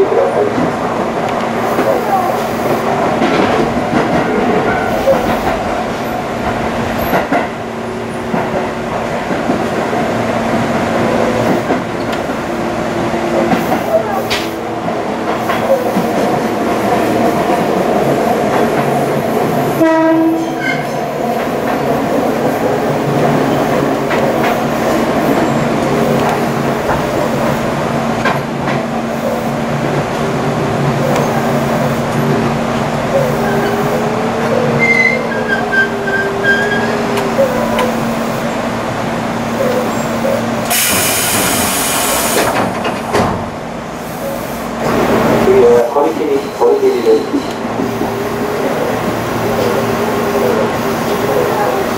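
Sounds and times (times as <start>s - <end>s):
train rail and motor noise: 0.0s - 51.9s.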